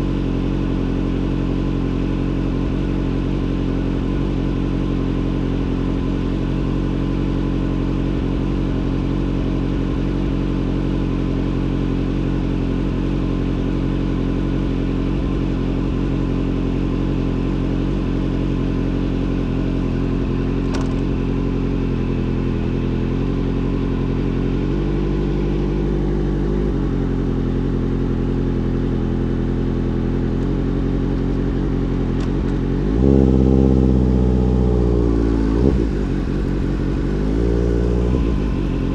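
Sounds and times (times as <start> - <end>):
motorcycle engine running and revving: 0.0 - 38.9.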